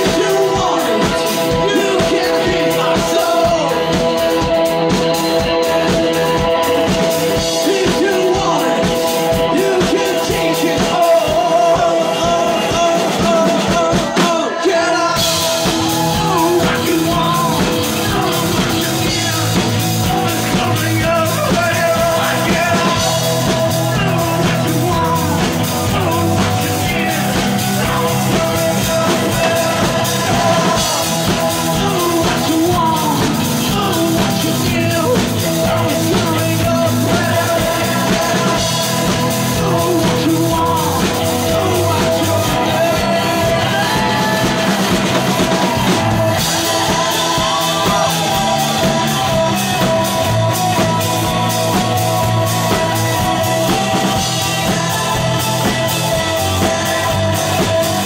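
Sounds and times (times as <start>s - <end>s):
drum beat: 0.0s - 58.0s
guitars: 0.0s - 58.0s
man singing into a microphone: 0.0s - 58.0s.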